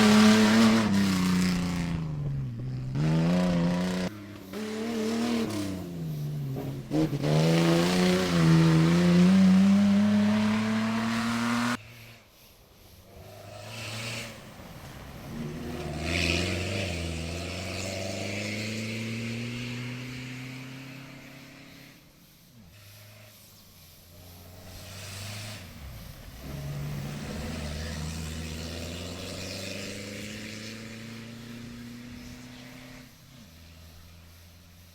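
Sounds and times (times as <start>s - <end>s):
vehicles accelerating past: 0.0s - 34.9s.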